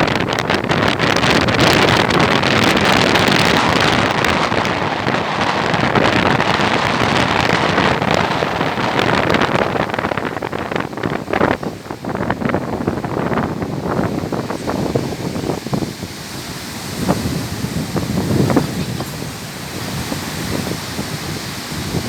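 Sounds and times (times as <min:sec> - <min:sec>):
waves crashing: 0:00.0 - 0:22.0
wind buffeting microphone: 0:00.0 - 0:22.0.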